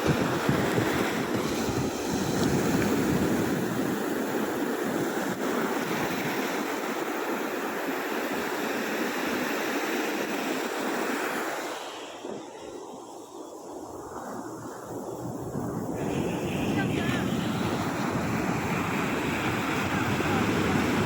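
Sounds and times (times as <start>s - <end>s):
sea waves breaking on beach: 0.0s - 21.0s.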